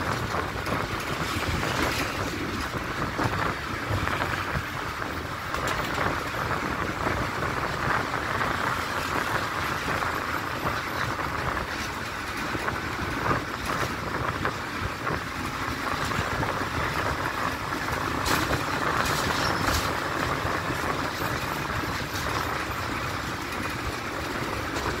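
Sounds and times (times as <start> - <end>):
tyres on road: 0.0 - 25.0
vehicle engine: 0.0 - 25.0.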